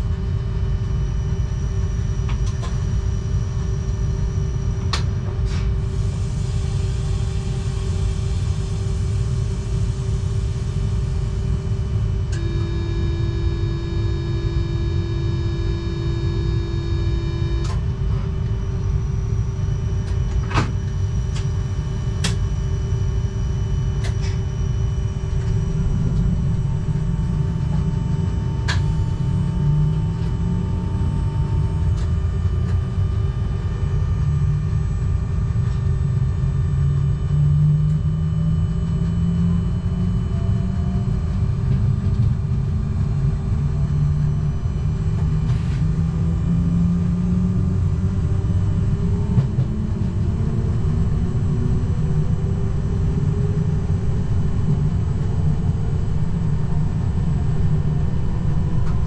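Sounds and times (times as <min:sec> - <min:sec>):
low motor whine: 0:00.0 - 0:59.0.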